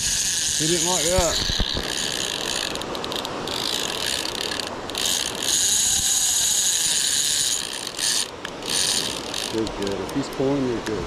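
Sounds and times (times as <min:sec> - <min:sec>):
fishing reel drag buzzing and clicking: 0:00.0 - 0:10.4.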